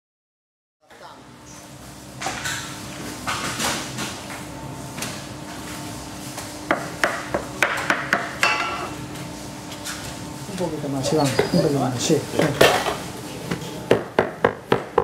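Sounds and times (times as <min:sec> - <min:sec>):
steady machine hum: 0:00.8 - 0:15.0.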